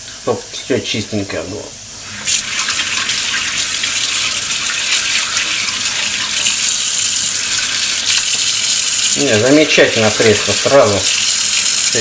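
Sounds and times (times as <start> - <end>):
kitchen tap running: 2.0 - 12.0.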